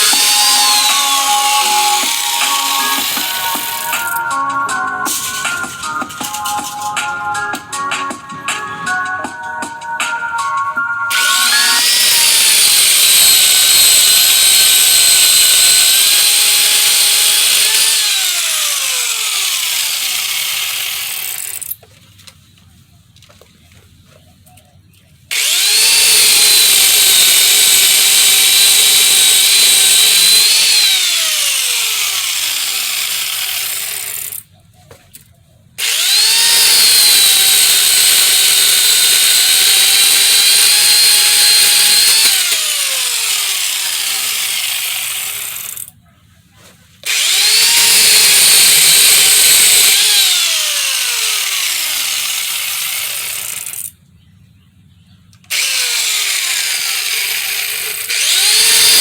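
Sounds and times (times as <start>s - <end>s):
chainsaw cutting wood: 0.0s - 9.4s, 11.0s - 21.8s, 25.3s - 34.5s, 35.8s - 45.9s, 47.0s - 54.0s, 55.5s - 59.0s.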